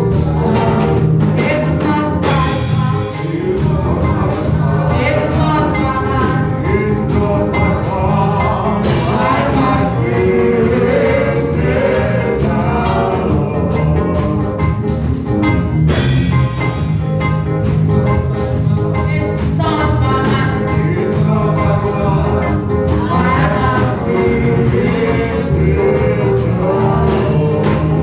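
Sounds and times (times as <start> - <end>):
gospel singing with band: 0.0 - 28.0
percussion beat: 0.0 - 28.0.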